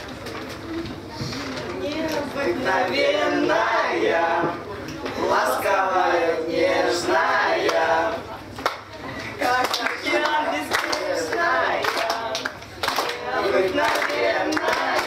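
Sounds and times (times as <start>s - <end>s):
teenagers singing: 2.2s - 8.5s, 9.2s - 15.0s.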